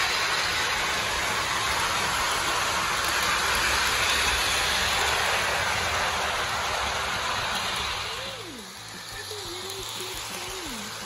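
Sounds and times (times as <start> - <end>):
toy train motor and wheels whirring: 0.0 - 11.0.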